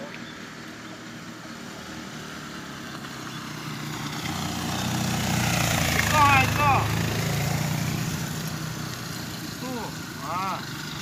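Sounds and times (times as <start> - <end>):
distant vehicle engines: 0.0 - 11.0
motorcycle engine running: 0.0 - 11.0.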